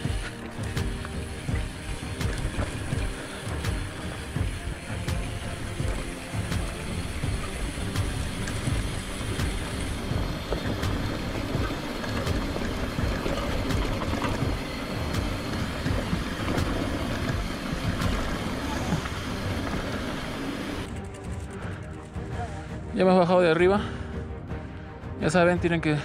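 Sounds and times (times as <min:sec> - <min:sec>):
bicycle tyres rumbling on rocks: 0:00.0 - 0:21.1.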